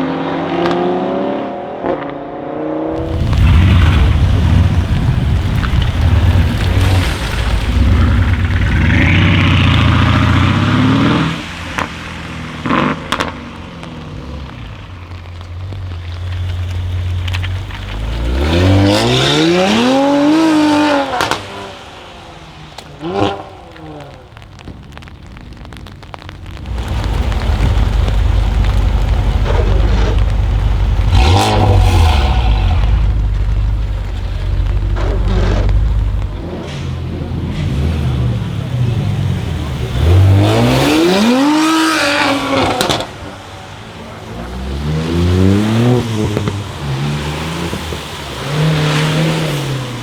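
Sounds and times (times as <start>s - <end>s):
car engine revving: 0.0s - 50.0s
exhaust cracks: 2.9s - 50.0s.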